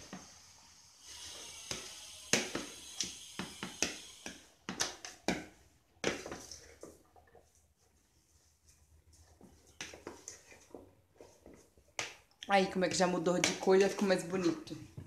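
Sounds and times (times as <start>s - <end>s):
food mixed by hand in plastic bowl: 1.2s - 15.0s.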